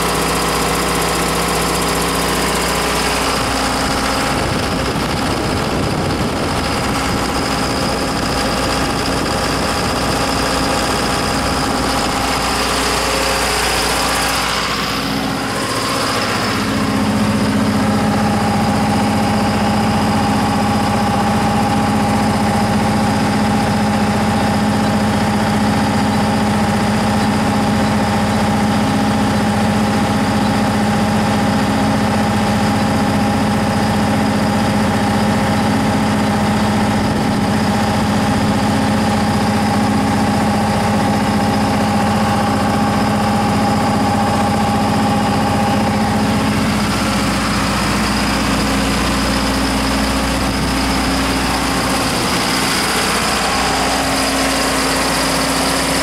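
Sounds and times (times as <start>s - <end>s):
diesel generator running: 0.0s - 56.0s.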